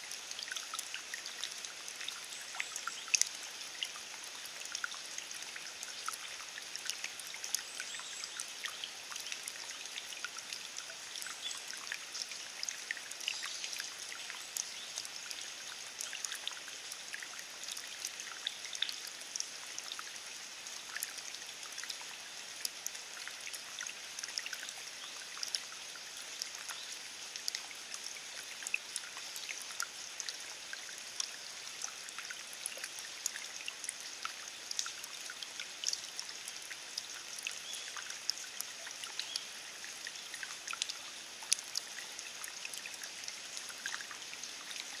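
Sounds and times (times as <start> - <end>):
rain falling on grass: 0.0 - 45.0.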